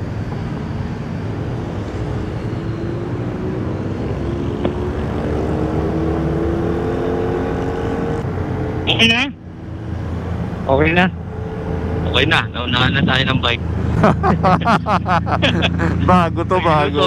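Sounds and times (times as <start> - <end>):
low riding rumble: 0.0 - 17.0.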